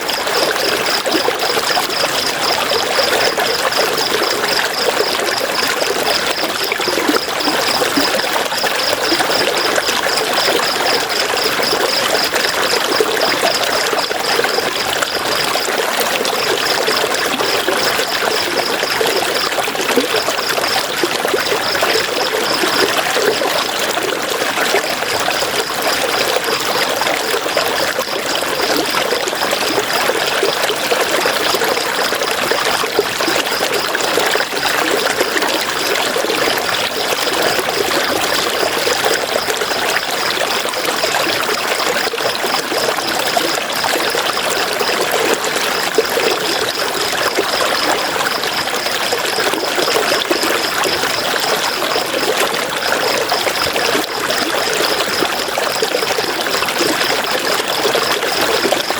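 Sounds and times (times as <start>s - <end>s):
river water flowing: 0.0s - 58.9s.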